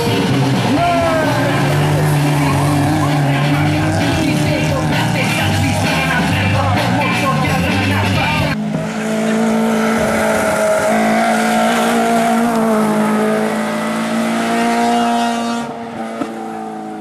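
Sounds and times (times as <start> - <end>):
race car engine revving high: 0.0 - 17.0.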